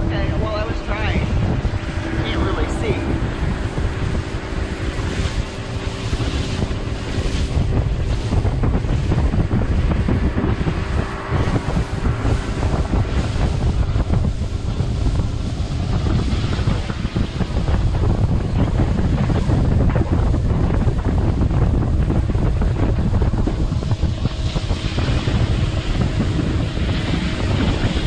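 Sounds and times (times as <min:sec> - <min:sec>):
outboard motor running: 0:00.0 - 0:28.0
water rushing along hull: 0:00.0 - 0:28.0
wind buffeting microphone: 0:00.0 - 0:28.0.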